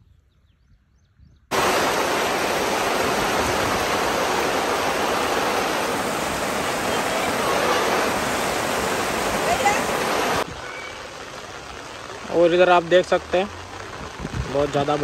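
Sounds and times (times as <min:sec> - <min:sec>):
heavy rain pouring: 0:01.5 - 0:15.0.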